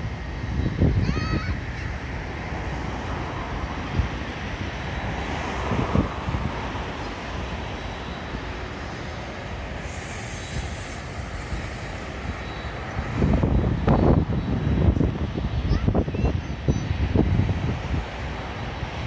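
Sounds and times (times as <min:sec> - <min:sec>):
airliner engine rumble: 0:00.0 - 0:19.0
wind buffeting microphone: 0:00.0 - 0:19.0.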